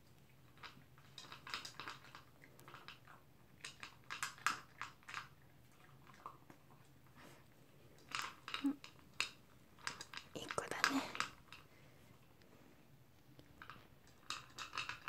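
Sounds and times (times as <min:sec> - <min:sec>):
dog crunching and chewing food: 0:00.0 - 0:12.3, 0:13.2 - 0:15.0.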